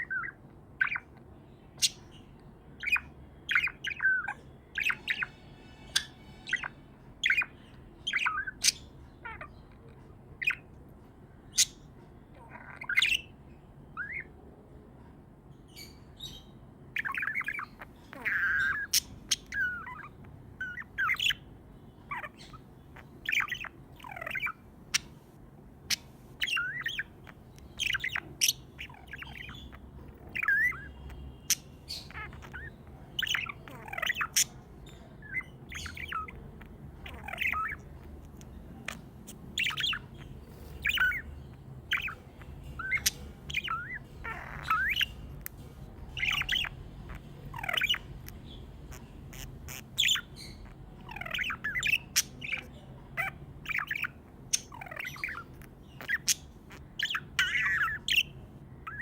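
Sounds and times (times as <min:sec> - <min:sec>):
budgerigars chirping and squawking: 0:00.0 - 0:14.4, 0:15.7 - 0:59.0.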